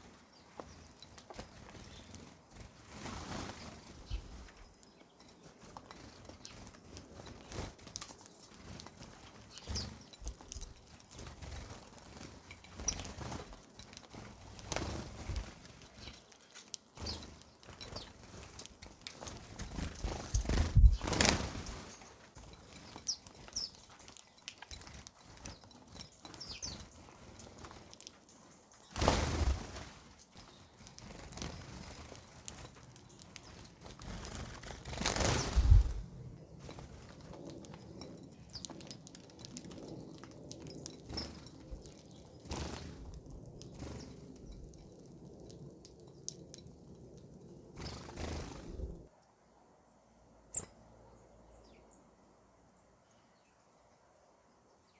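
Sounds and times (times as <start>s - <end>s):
birds pecking: 0.0s - 49.1s.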